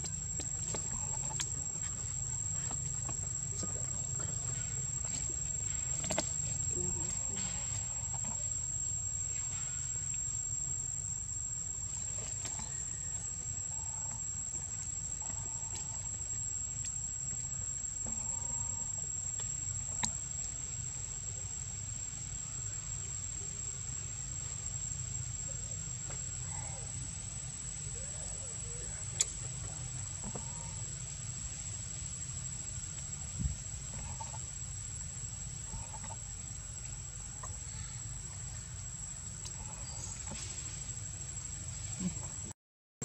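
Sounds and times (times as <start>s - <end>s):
high-pitched insect drone: 0.0s - 21.6s, 22.3s - 42.5s.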